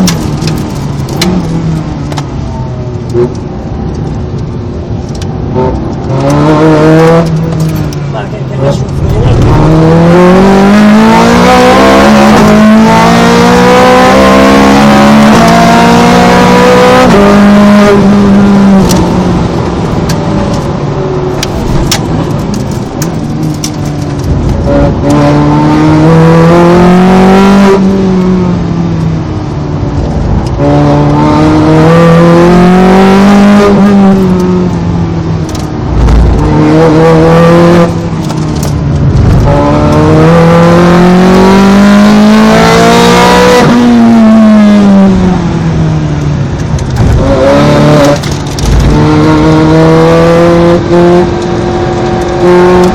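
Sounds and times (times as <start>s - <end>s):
sports car engine revving: 5.5s - 28.9s, 30.3s - 52.9s.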